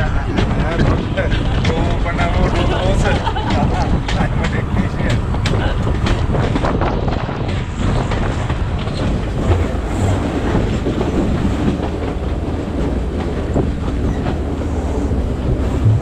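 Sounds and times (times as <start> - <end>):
train carriage rumble: 0.0 - 16.0
wheels clacking over rail joints: 0.0 - 16.0.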